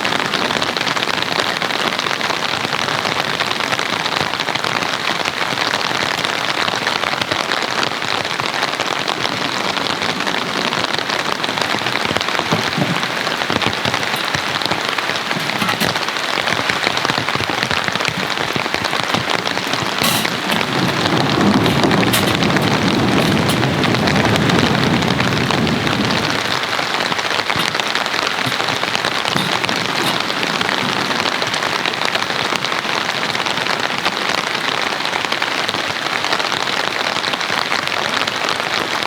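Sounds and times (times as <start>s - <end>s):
heavy rain pattering: 0.0s - 39.0s.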